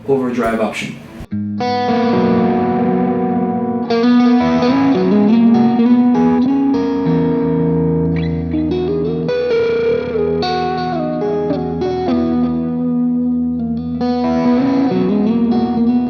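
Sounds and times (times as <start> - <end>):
electric guitar playing: 0.0 - 16.0.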